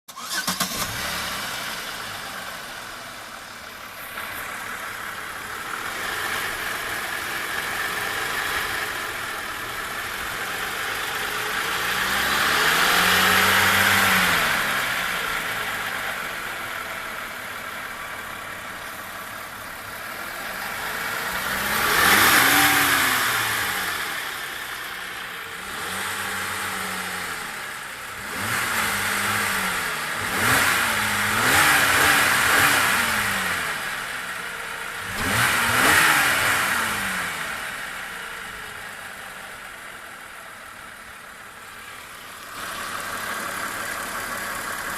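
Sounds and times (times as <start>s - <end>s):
car engine idling and revving: 0.1s - 44.9s.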